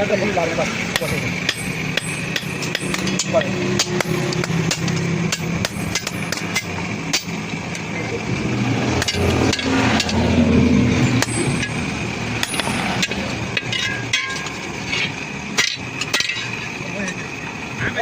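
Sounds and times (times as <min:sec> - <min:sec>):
steady hum: 0:00.1 - 0:18.0.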